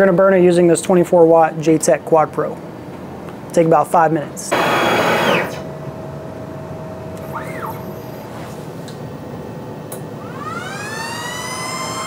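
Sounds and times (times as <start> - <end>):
fan and stepper motor hum: 0.0 - 12.0.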